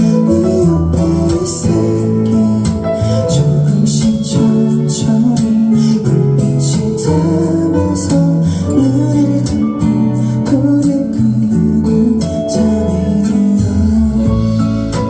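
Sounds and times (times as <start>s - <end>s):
live indie band ballad: 0.0s - 15.0s
strummed acoustic guitar: 0.0s - 15.0s.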